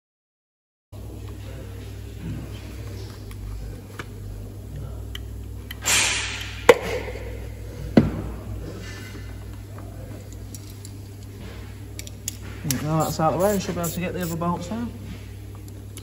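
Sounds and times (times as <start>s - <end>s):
low steady hum: 1.0s - 16.0s.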